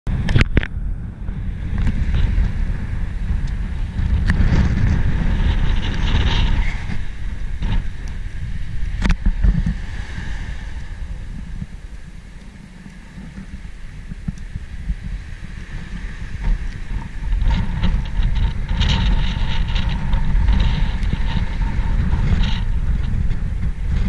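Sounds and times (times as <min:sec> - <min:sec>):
wind buffeting microphone: 0:00.0 - 0:24.0
small sea waves: 0:00.1 - 0:24.0.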